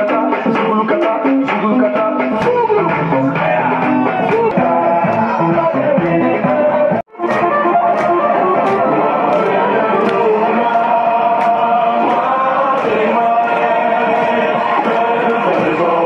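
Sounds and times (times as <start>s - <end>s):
guitar: 0.0s - 16.0s
person singing: 0.0s - 16.0s
steady beat: 0.0s - 16.0s.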